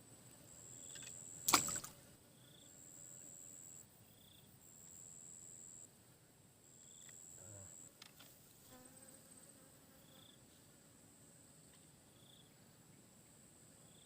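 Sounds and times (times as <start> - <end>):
insects buzzing: 0.0 - 6.0, 6.6 - 14.0.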